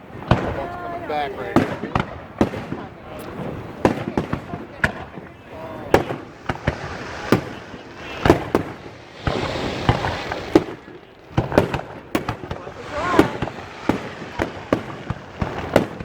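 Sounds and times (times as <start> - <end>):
fireworks bangs and pops: 0.0 - 16.0
fireworks crackle: 0.0 - 16.0.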